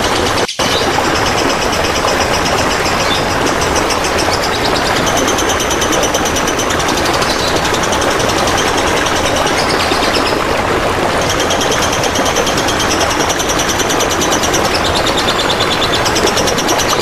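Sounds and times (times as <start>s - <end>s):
running trickling water: 0.0s - 17.0s.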